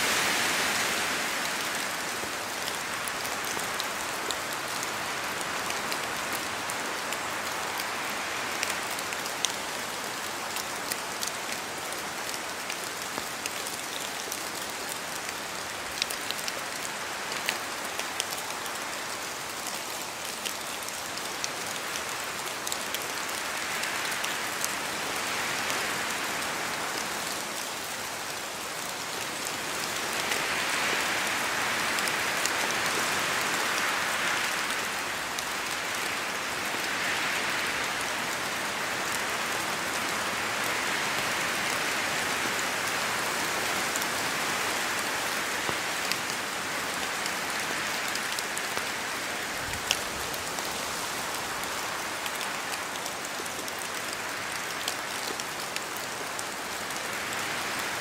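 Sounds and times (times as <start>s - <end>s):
steady rain: 0.0s - 58.0s
wind gusts through trees: 0.0s - 58.0s.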